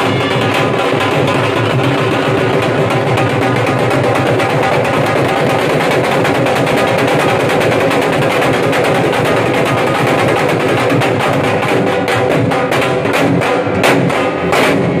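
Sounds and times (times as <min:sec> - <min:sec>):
barrel drums beaten with sticks: 0:00.0 - 0:15.0.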